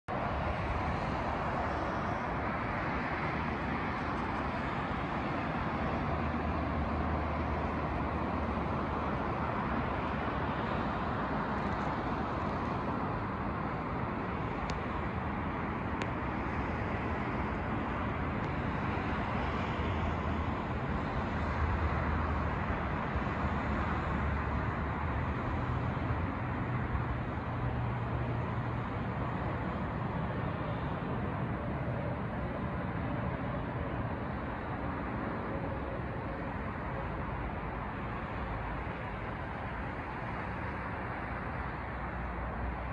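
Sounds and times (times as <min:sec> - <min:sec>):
distant engines humming: 0:00.1 - 0:42.9.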